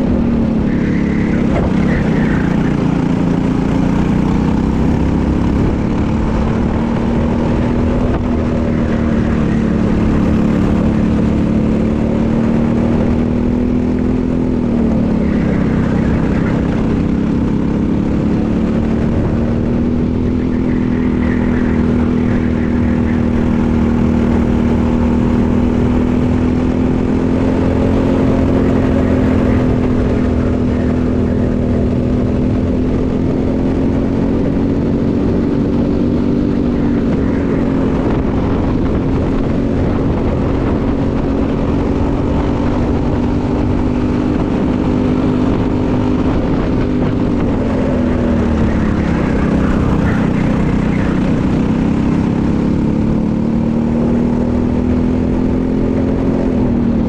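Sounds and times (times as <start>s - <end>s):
kart engine at high revs: 0.0s - 57.0s.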